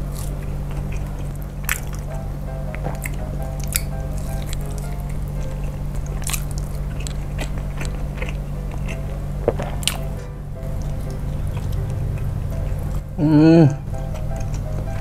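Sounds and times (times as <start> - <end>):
wet chewing mouth sounds: 0.0 - 2.1, 2.8 - 15.0.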